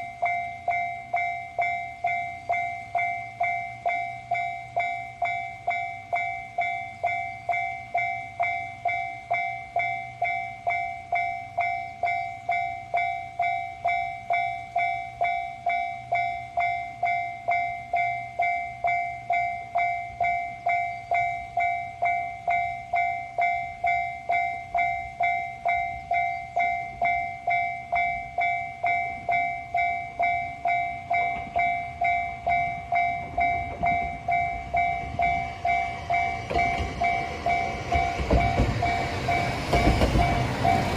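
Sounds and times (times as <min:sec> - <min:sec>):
railroad crossing alarm ringing: 0:00.0 - 0:40.9.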